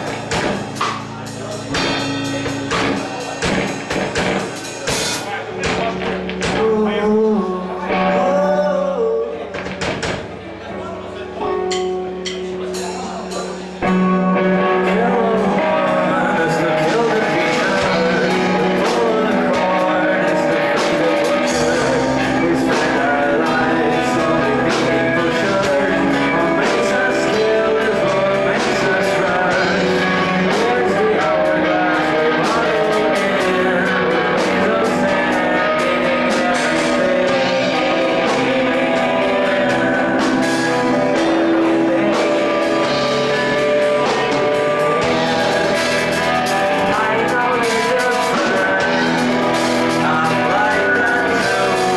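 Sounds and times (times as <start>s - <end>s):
live rock band playing: 0.0s - 51.9s
person singing: 4.6s - 9.8s, 11.4s - 51.9s.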